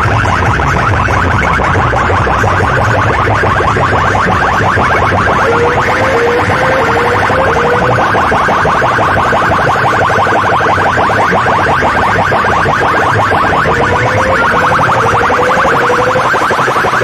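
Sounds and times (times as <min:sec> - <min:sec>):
electronic chirp tone: 0:03.2 - 0:17.0.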